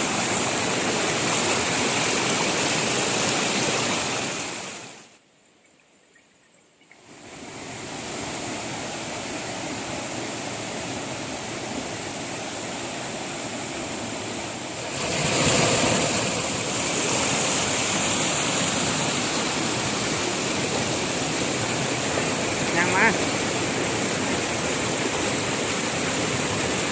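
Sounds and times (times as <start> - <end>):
waterfall rushing: 0.0 - 5.1, 7.0 - 26.9.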